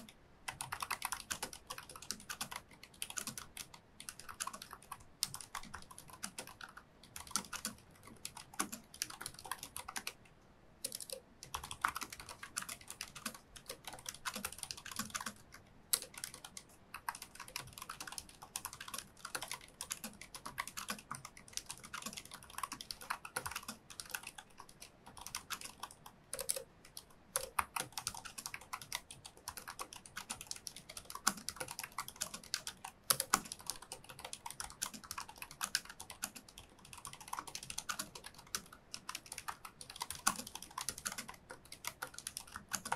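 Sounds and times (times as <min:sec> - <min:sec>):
fast keyboard typing: 0:00.0 - 0:10.2, 0:10.8 - 0:42.9.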